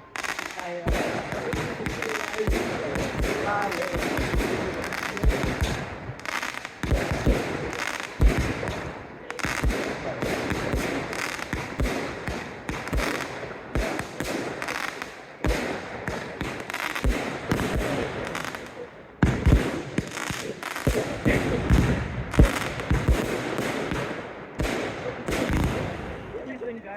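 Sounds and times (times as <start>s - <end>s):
firework bursts and booms: 0.0s - 26.6s
fireworks crackling: 0.0s - 26.9s.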